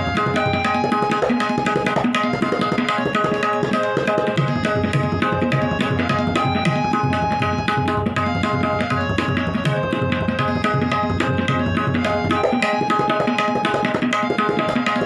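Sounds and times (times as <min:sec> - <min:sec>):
tabla strokes: 0:00.0 - 0:15.0.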